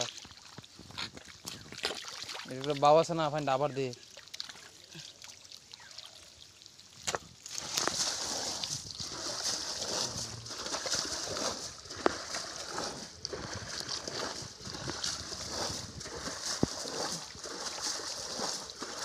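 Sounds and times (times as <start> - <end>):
muddy water splashing: 0.0 - 19.0.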